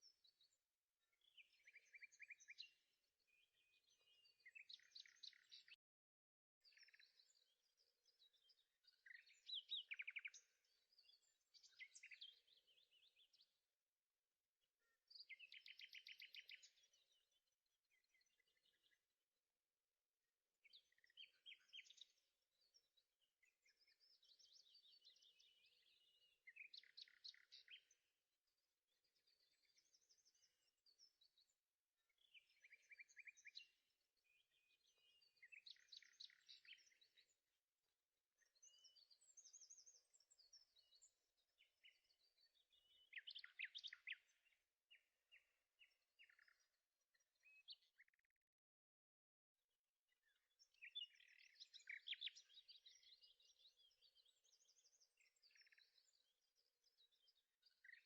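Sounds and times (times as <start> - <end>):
faint bird chirps and trills: 0.0 - 58.0.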